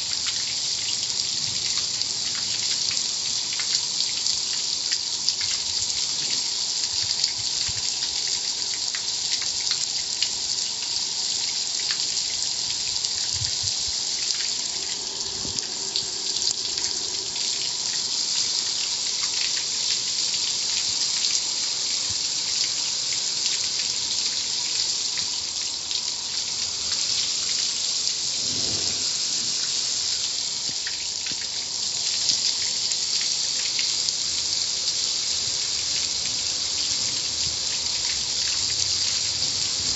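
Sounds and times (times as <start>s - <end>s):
car wash water jets spraying: 0.0s - 39.9s.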